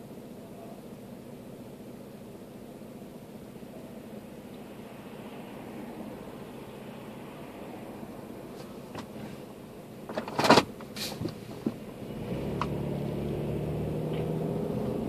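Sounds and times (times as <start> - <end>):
car engine: 2.3 - 15.0.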